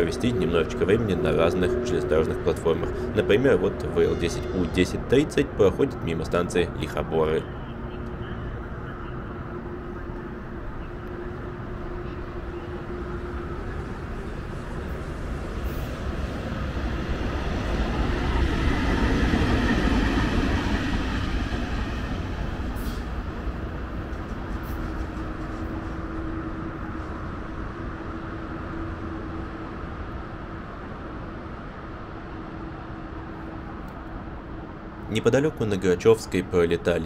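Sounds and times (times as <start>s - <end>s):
wheels rumbling on rails: 0.0s - 37.0s.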